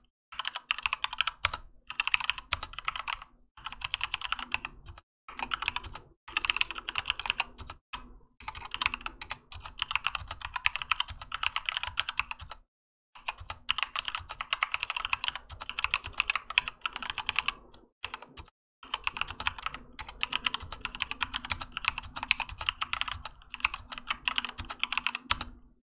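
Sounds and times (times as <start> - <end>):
mechanical keyboard typing: 0.4 - 12.6, 13.2 - 25.7.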